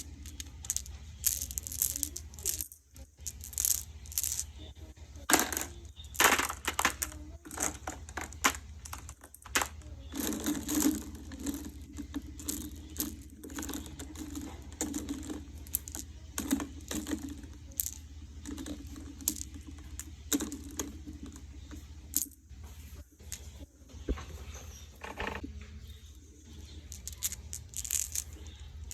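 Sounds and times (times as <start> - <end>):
marbles clicking and clattering: 0.0 - 22.5, 23.2 - 23.6, 25.0 - 25.4, 26.4 - 28.9
marbles rolling rumble: 0.0 - 28.9.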